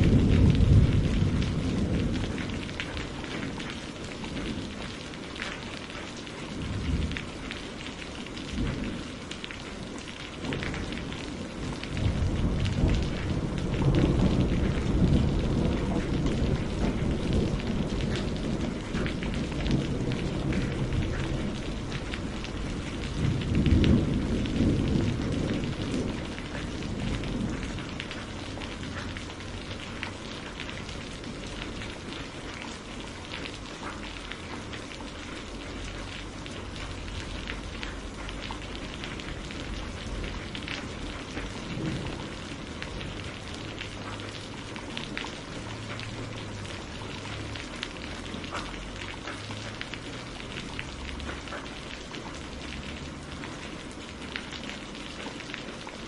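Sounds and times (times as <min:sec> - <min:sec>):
thunder rumbling: 0:00.0 - 0:05.6, 0:06.4 - 0:54.5
steady rain patter: 0:00.0 - 0:56.0.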